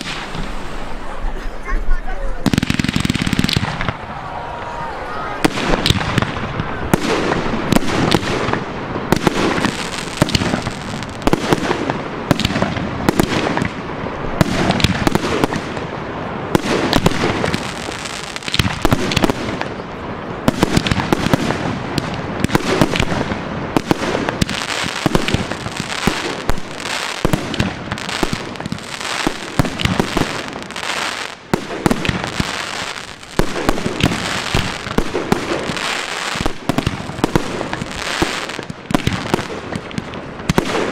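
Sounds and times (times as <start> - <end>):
fireworks bursting: 0.0 - 40.9.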